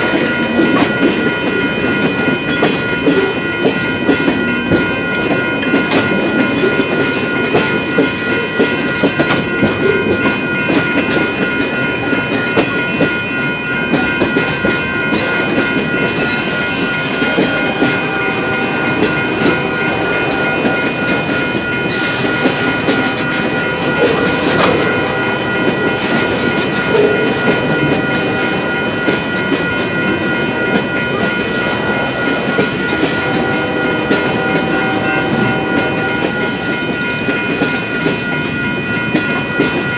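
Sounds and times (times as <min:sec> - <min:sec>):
crossing warning bell ringing: 0:00.0 - 0:39.9
train wheels clickety-clack: 0:00.0 - 0:39.9.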